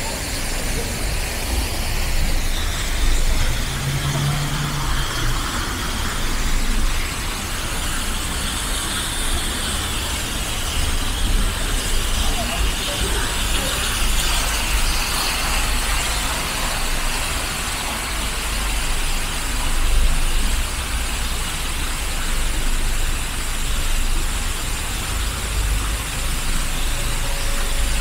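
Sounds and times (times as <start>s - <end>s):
city road traffic rumble: 0.0s - 28.0s.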